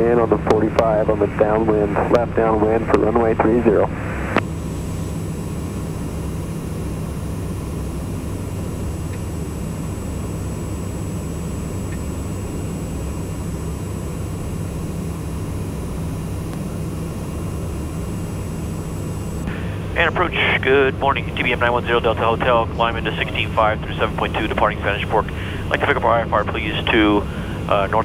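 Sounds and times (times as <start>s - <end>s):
turboprop cabin drone: 0.0s - 28.0s.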